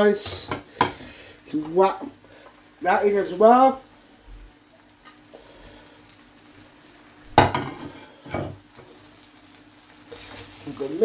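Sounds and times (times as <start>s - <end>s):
faint frying hiss: 0.0s - 11.0s.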